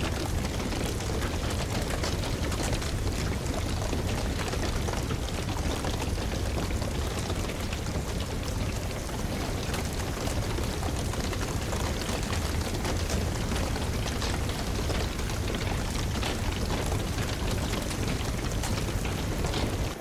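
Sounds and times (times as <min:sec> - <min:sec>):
steady rain: 0:00.0 - 0:20.0
wood fire crackling: 0:00.0 - 0:20.0.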